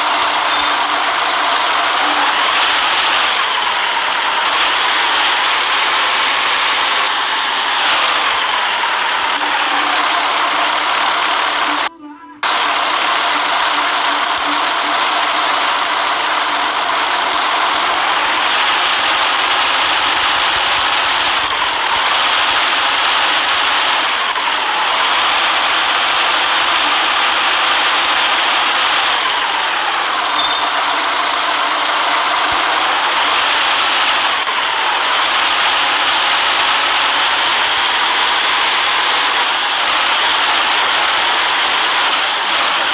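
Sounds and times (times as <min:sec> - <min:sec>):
bus engine: 0:00.0 - 0:42.9.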